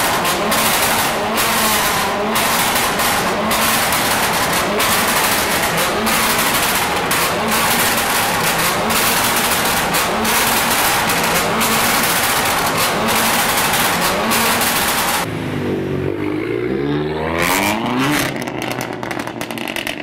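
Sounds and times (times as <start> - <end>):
exhaust pops and bangs: 0.0 - 15.3, 18.0 - 20.0
car engine revving: 0.0 - 20.0.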